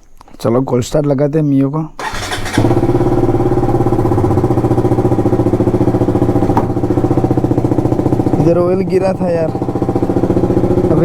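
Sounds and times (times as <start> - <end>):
motorcycle engine idling: 2.0 - 11.0.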